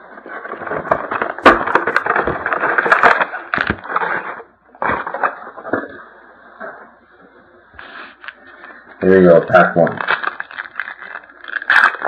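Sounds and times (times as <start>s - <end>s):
plastic wrap and cardboard ripping: 0.0s - 6.2s, 7.8s - 12.0s.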